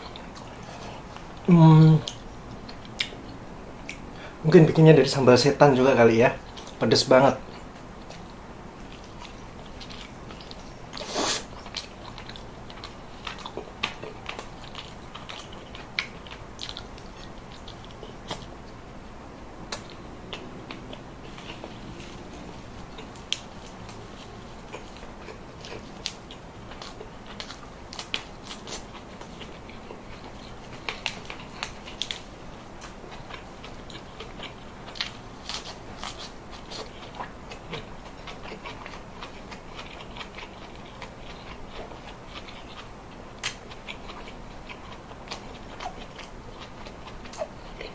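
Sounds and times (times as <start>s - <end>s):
close chewing and crunching: 6.3s - 18.8s, 19.6s - 47.9s.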